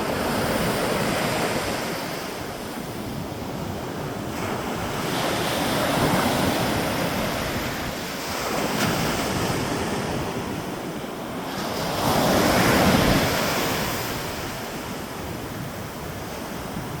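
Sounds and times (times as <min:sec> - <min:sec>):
ocean waves breaking: 0:00.0 - 0:17.0
wind rumbling on microphone: 0:00.0 - 0:17.0.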